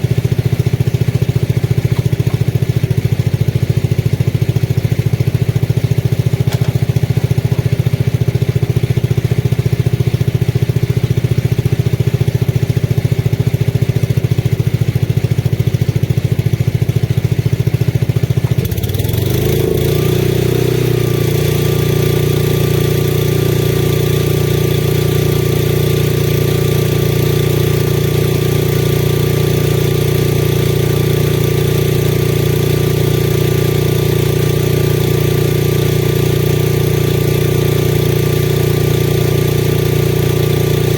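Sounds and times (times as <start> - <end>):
generator engine running: 0.0 - 40.9.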